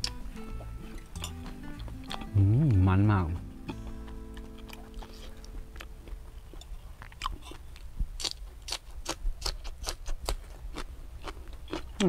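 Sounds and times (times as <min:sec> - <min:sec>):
person chewing and crunching crab: 0:00.0 - 0:12.0.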